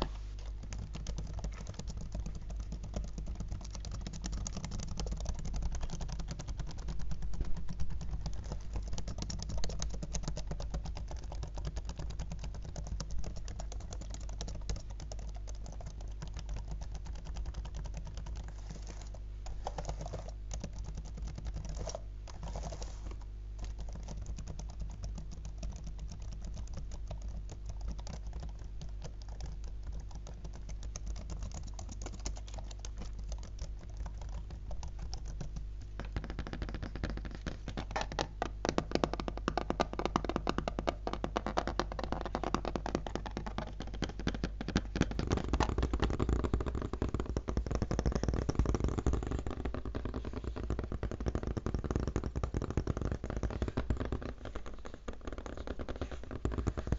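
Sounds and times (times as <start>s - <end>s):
fingers typing on laptop: 0.0s - 56.9s.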